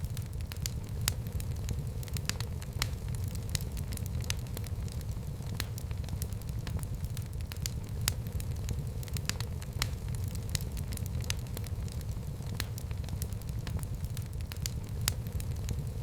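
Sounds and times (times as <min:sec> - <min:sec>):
fire crackling in a fireplace: 0:00.0 - 0:16.0
low fire rumble: 0:00.0 - 0:16.0.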